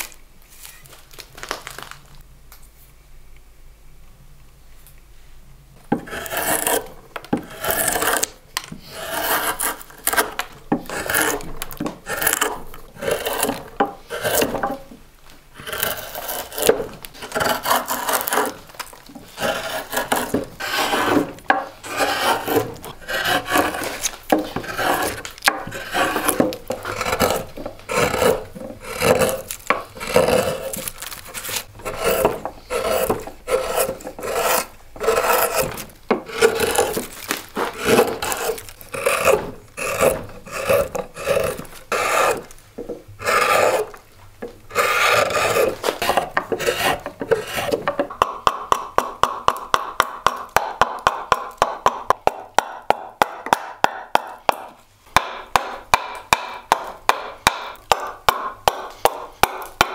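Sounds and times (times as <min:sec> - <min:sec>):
gouge scraping wood: 0:05.9 - 0:54.0.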